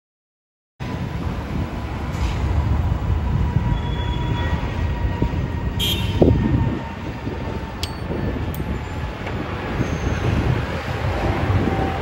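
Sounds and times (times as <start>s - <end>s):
jet engines rumbling overhead: 0.8s - 12.0s.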